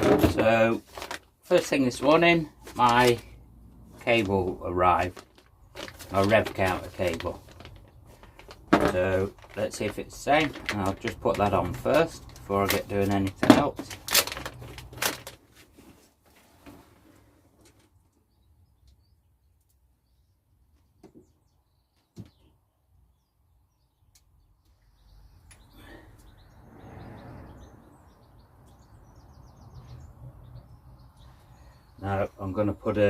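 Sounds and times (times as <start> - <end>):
faint birds chirping: 0.7 - 14.0, 15.6 - 33.0.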